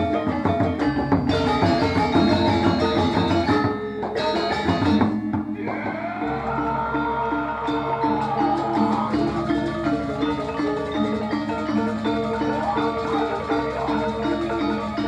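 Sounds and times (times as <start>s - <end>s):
drums: 0.0s - 15.0s
gamelan metallophones: 0.0s - 15.0s.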